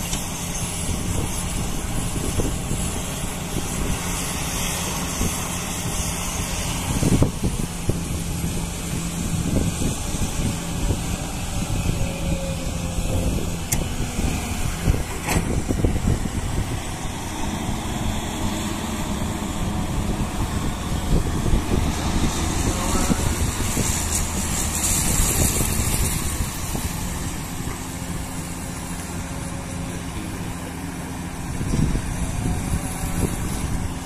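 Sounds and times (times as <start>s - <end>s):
excavator diesel engine rumble: 0.0s - 34.0s.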